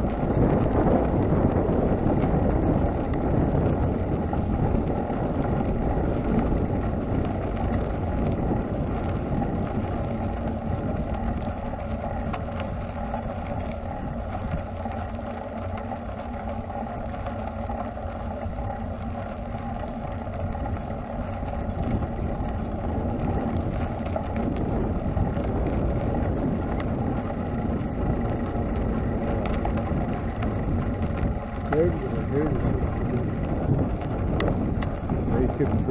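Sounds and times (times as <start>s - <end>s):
tyres rolling over gravel: 0.0s - 35.9s
wind buffeting microphone: 0.0s - 35.9s.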